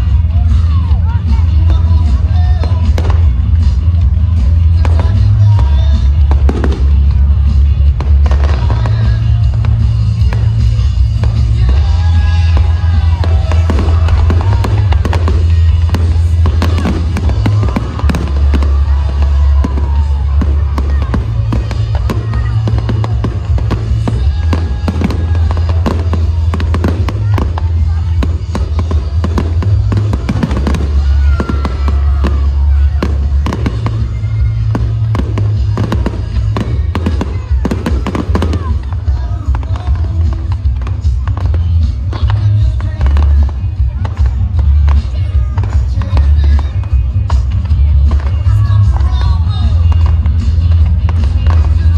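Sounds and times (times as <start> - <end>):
fireworks bangs and crackling: 0.0 - 51.9
loud music with heavy bass: 0.0 - 51.9.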